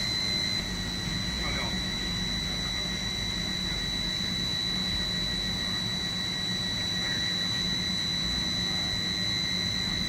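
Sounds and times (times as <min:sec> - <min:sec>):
high-pitched machine whine: 0:00.0 - 0:10.0
machine hum: 0:00.0 - 0:10.0.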